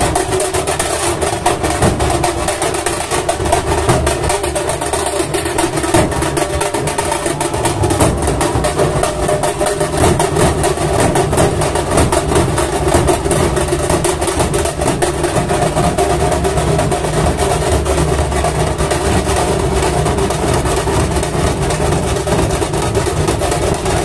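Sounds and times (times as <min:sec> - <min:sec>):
drum troupe drumming: 0:00.0 - 0:24.0.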